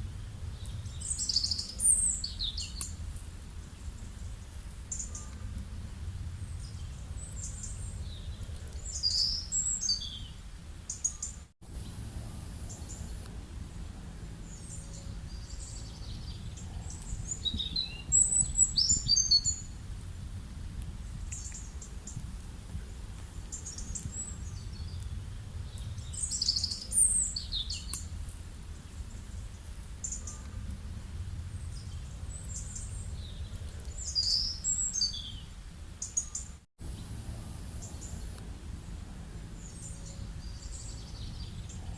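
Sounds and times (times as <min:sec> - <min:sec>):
small birds chirping: 0:00.0 - 0:19.8, 0:20.9 - 0:41.9
steady low background rumble: 0:00.0 - 0:41.9.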